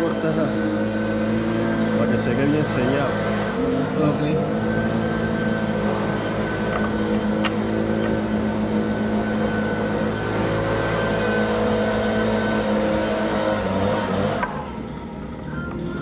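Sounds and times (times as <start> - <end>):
motor running steadily: 0.0 - 16.0.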